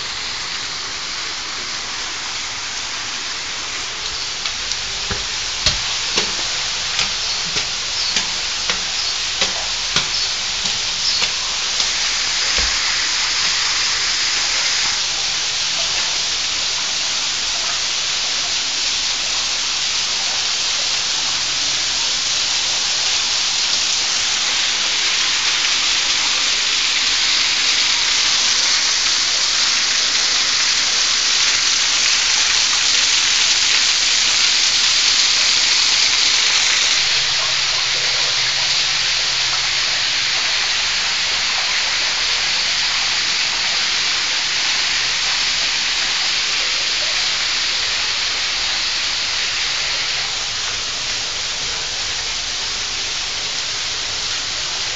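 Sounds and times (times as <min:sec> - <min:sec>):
waterfall splashing: 0:00.0 - 0:54.9.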